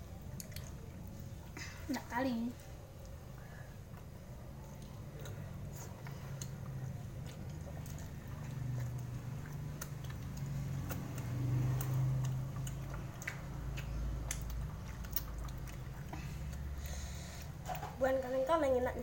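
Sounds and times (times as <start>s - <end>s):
person chewing food: 0.0s - 2.0s, 2.7s - 18.0s
steady low hum: 0.0s - 19.0s.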